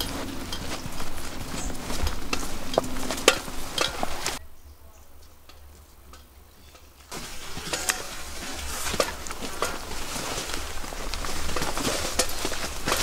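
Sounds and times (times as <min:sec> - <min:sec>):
footsteps crunching on dirt trail: 0:00.0 - 0:04.4, 0:05.9 - 0:13.0.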